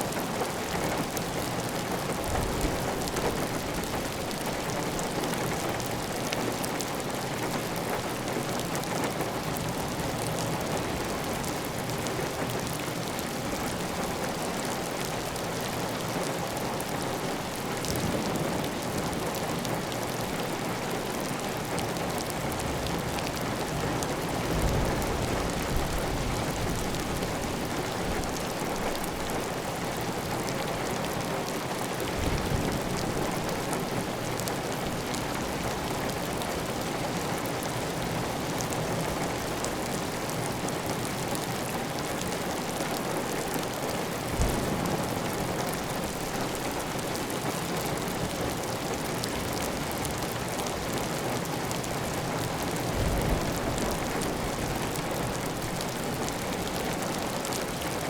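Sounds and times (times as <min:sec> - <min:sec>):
heavy rain on tile roof: 0:00.0 - 0:58.0.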